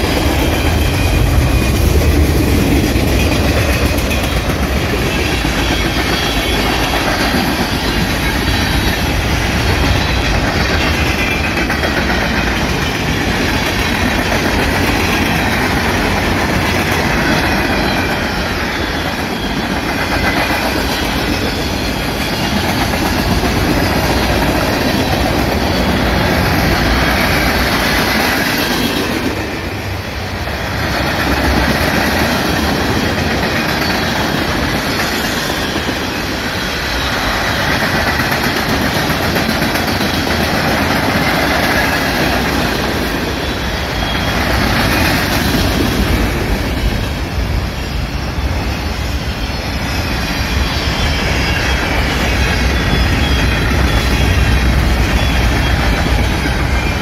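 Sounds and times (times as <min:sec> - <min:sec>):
wheels clacking over rail joints: 0:00.0 - 0:47.4
freight train rumbling past: 0:00.0 - 0:57.0.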